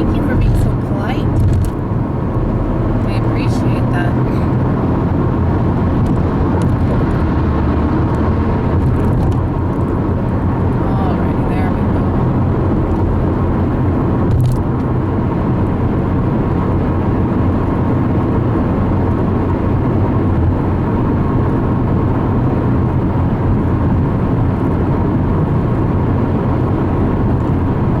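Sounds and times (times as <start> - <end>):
car cabin road noise: 0.0 - 28.0.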